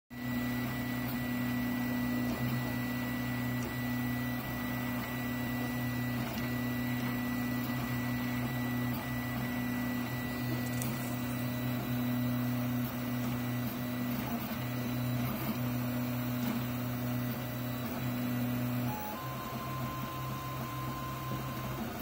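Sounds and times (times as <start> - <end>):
cooling fan whirring: 0.3 - 22.0
stepper motors humming: 1.8 - 22.0.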